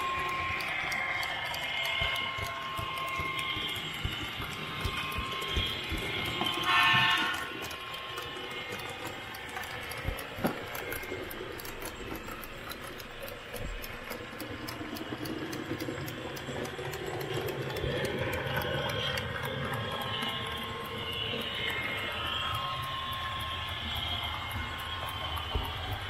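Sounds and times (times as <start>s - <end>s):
model train rolling rumble: 0.0s - 26.0s
wheels clicking over rail joints: 0.0s - 26.0s.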